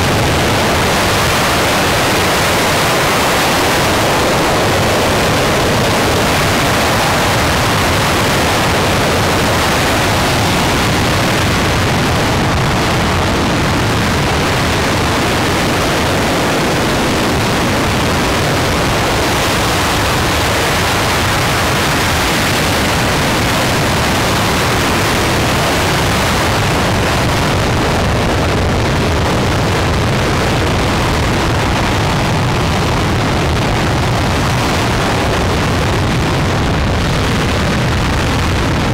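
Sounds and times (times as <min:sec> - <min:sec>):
rocket engine roaring: 0:00.0 - 0:38.9.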